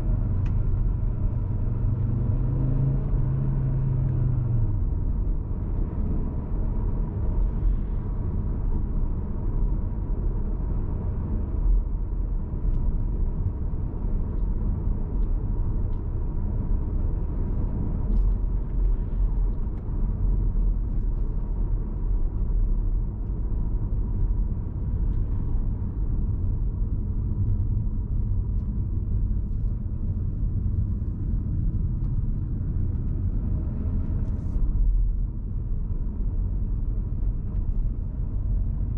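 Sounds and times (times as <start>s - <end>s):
car engine low rumble: 0.0s - 38.9s
road noise: 0.0s - 38.9s.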